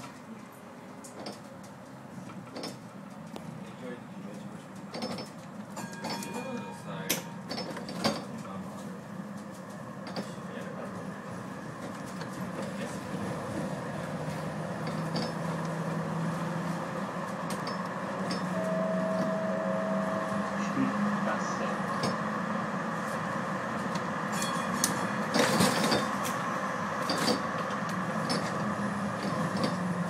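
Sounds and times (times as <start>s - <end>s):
tram hum: 0.0s - 30.0s
wheels rumbling on rails: 0.0s - 30.0s.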